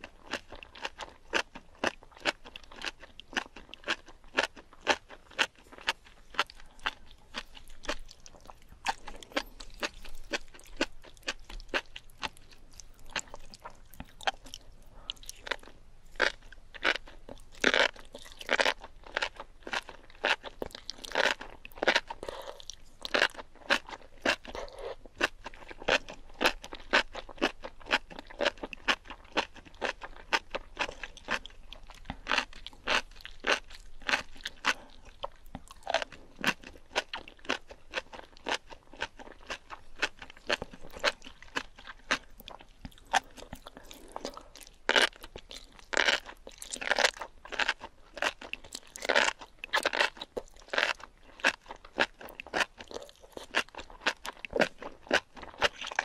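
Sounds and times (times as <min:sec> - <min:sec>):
crunchy wet chewing: 0:00.0 - 0:56.0.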